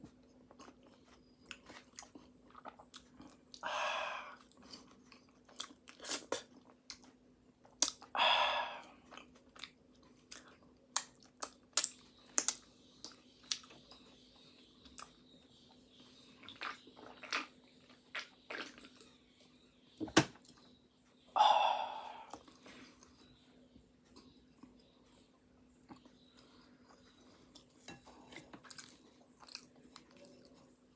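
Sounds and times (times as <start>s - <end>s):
chewing flaky pastry: 0.0s - 8.2s, 8.8s - 19.7s, 22.3s - 30.9s.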